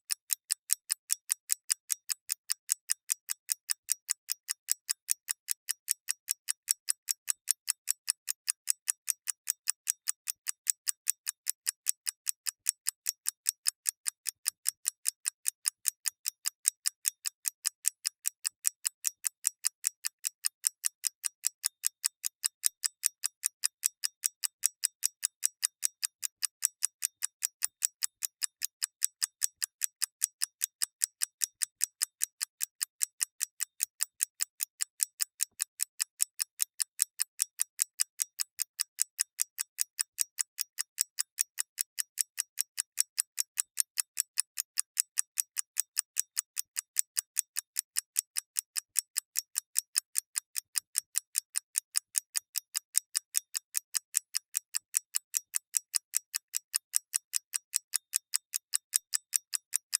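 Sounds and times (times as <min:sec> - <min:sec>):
mechanical clock ticking: 0:00.0 - 0:59.9.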